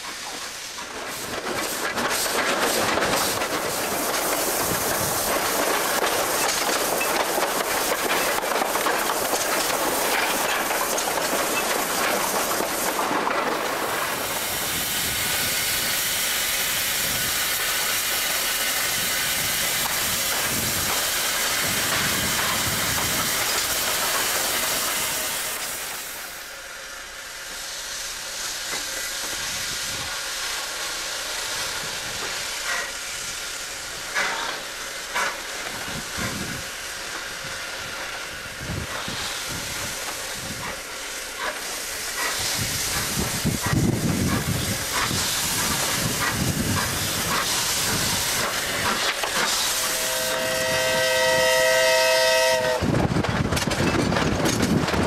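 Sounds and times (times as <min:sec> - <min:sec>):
steam hissing: 0:00.0 - 0:55.0
steam locomotive running: 0:00.0 - 0:55.0.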